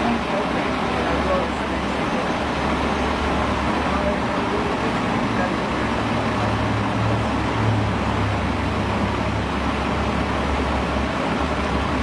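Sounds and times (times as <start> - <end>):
heavy vehicle engine running: 0.0 - 12.0
street traffic noise: 0.0 - 12.0.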